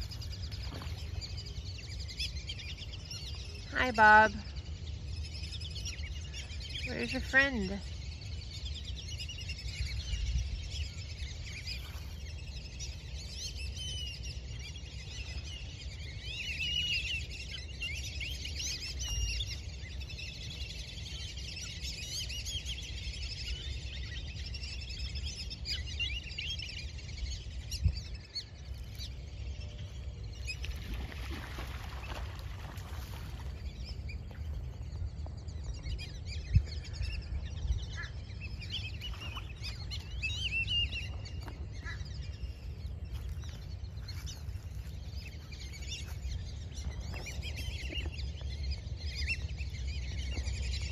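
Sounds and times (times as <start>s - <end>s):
birds whistling and chirping: 0.0s - 50.9s
steady low rumble: 7.7s - 50.9s.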